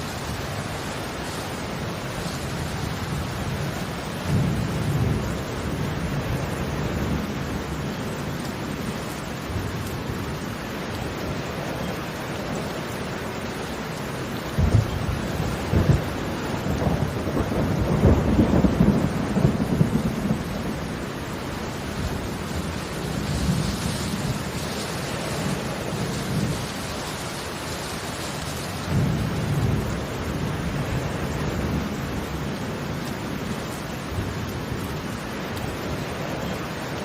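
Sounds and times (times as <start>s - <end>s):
steady rain: 0.0s - 37.0s.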